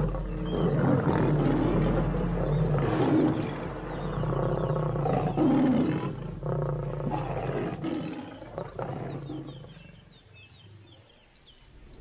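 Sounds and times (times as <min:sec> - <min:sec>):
lions snarling and growling: 0:00.0 - 0:11.0.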